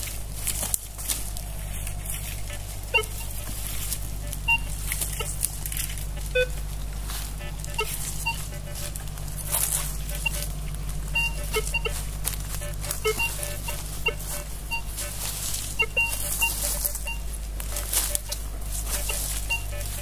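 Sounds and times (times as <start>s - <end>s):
grass rustling against coil: 0.0s - 20.0s
metal detector beeps: 2.1s - 20.0s.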